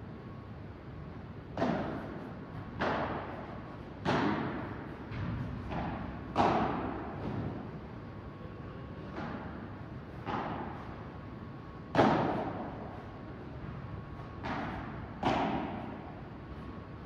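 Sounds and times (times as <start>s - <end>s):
rackets hitting ball: 1.5s - 7.8s, 9.0s - 16.4s.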